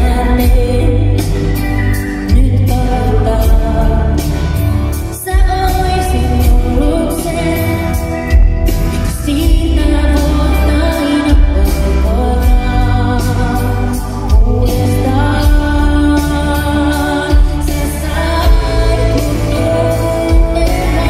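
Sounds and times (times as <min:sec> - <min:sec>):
live band with boomy bass: 0:00.0 - 0:21.0
person singing: 0:00.0 - 0:21.0.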